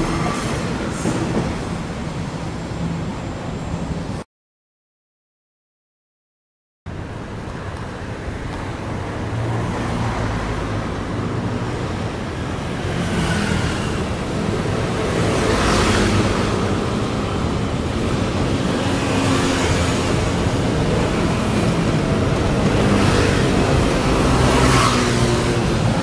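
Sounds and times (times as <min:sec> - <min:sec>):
electric train departing: 0:00.0 - 0:04.2, 0:07.0 - 0:26.0.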